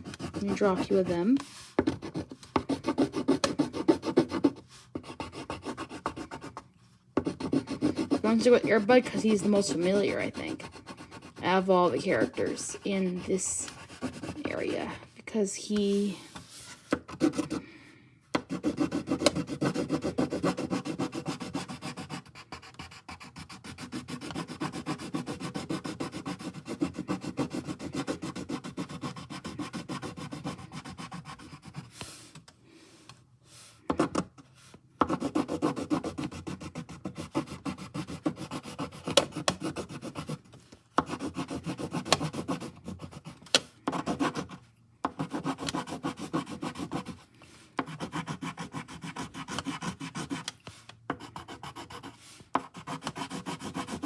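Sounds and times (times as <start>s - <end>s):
pencil scratching on paper: 0.0s - 6.6s, 7.2s - 15.0s, 16.4s - 17.6s, 18.4s - 32.2s, 35.0s - 40.4s, 41.0s - 47.2s, 47.8s - 50.5s, 51.1s - 54.0s.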